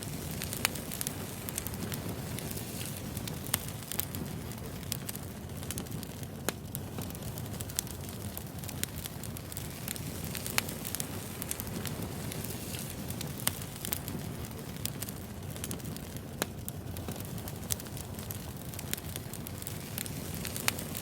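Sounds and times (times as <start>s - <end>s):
fire low rumble: 0.0s - 21.0s
wood fire crackling: 0.0s - 21.0s.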